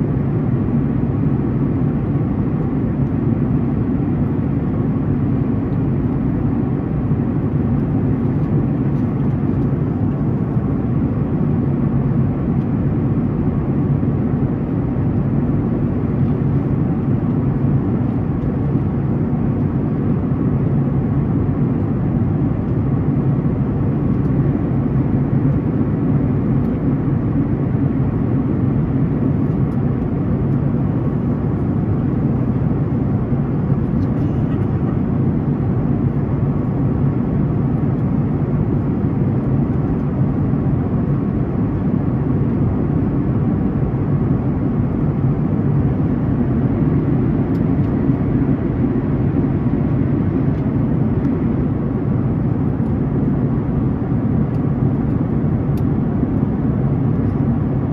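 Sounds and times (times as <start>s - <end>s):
airplane cabin drone: 0.0s - 57.9s.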